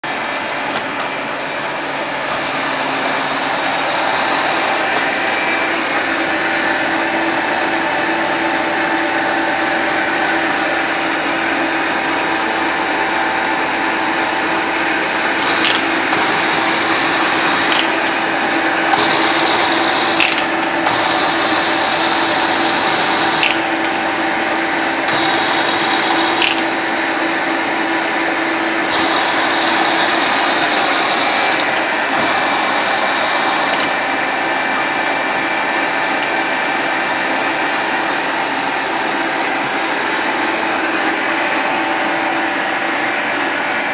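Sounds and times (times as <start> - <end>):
lathe mechanical whir: 0.0 - 43.9.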